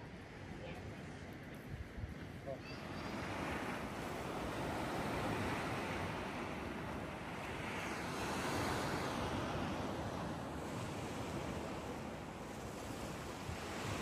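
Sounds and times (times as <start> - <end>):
sea surf washing: 0.0 - 14.0.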